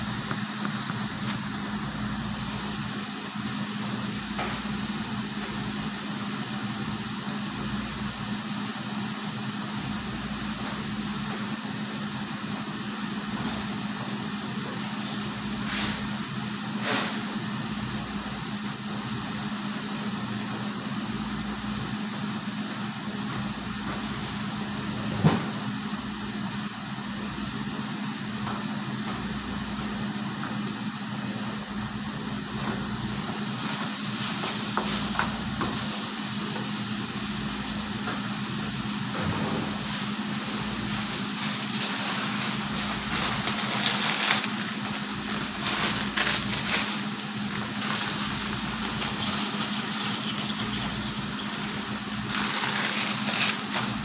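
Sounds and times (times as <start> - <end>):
range hood fan whirring: 0.0 - 54.0.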